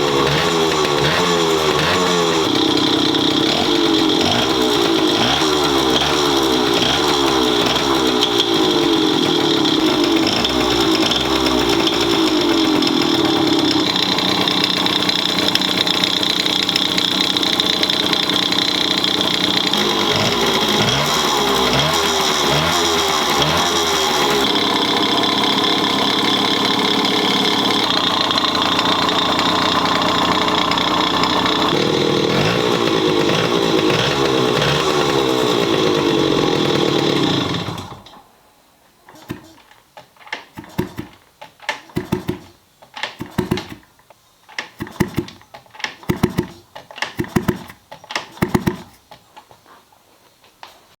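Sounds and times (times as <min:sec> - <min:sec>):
two-stroke engine abnormal noise: 0:00.0 - 0:38.3, 0:40.5 - 0:41.2, 0:41.8 - 0:43.9, 0:44.6 - 0:49.0.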